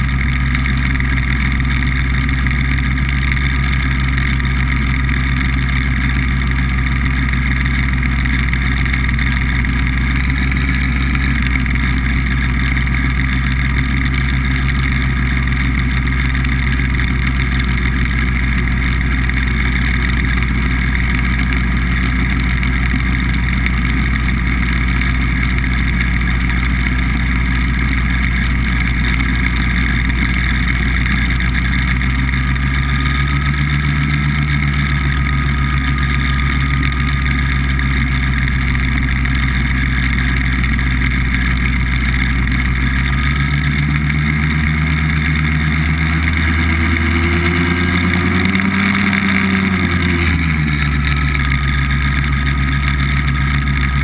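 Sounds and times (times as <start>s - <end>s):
hovercraft engine and fan drone: 0.0s - 54.0s.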